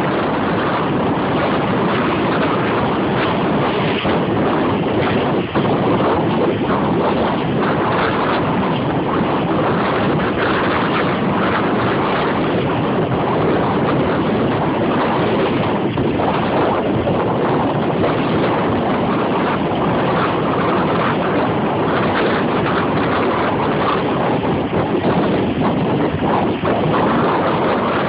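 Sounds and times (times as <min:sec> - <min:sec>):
boat motor and water rushing: 0:00.0 - 0:28.0
wind buffeting microphone: 0:00.0 - 0:28.0.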